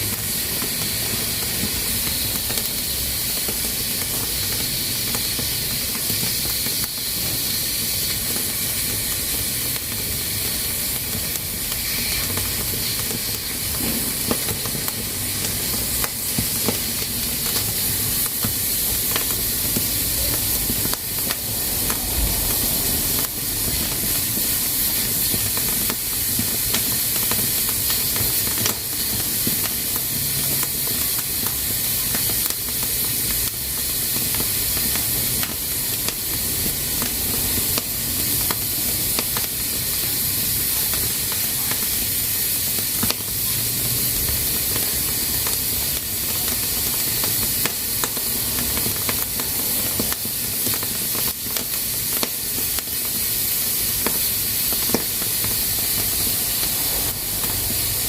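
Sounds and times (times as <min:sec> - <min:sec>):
pressure cooker hissing: 0:00.0 - 0:58.0.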